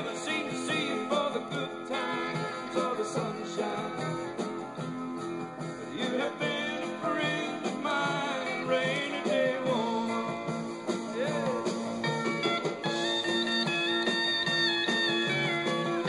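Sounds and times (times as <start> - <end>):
country music with guitar and band: 0.0 - 16.0.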